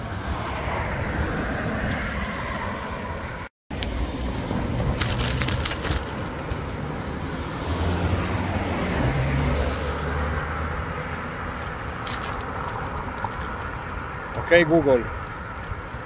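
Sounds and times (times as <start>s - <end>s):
car passing: 0.0s - 16.0s
wind and road noise: 0.0s - 16.0s.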